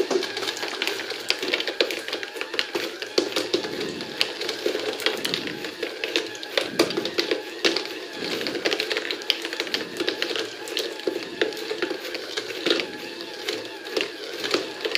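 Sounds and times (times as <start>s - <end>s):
small motor whirring: 0.0s - 14.9s.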